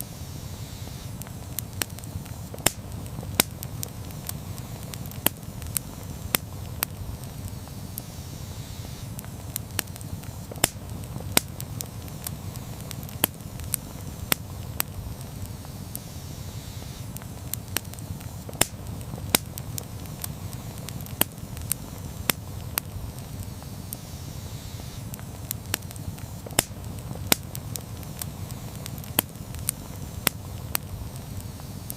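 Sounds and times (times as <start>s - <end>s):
campfire burning and crackling: 0.0s - 31.9s.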